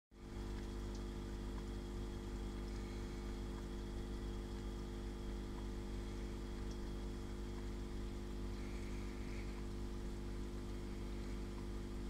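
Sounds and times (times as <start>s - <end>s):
aquarium pump humming: 0.1s - 12.0s.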